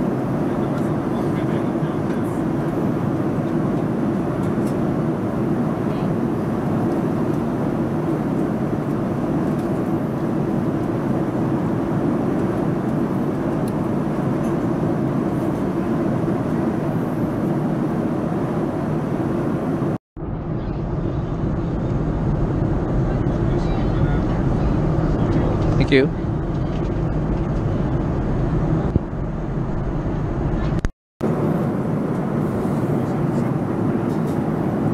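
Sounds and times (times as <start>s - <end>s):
airliner cabin hum: 0.0s - 34.9s.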